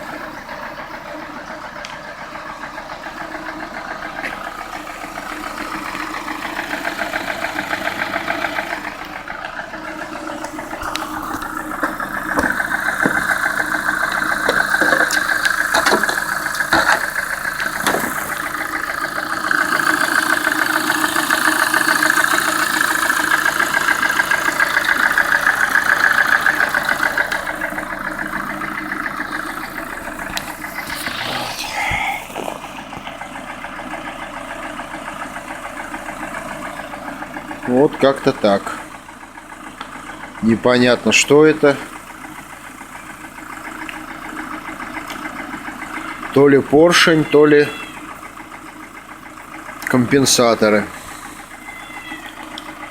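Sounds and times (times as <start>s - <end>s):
car engine idling with rhythmic knock: 0.0s - 52.9s.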